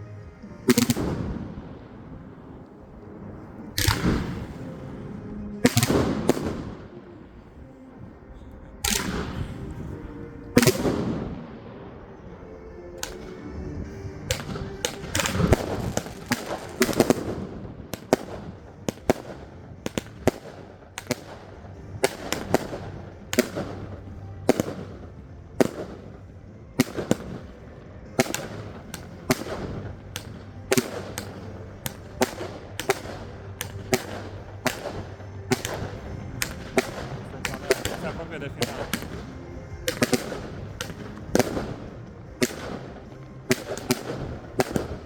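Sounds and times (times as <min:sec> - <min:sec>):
background crackle and rumble: 0:00.0 - 0:45.0
fireworks bangs: 0:00.0 - 0:45.0.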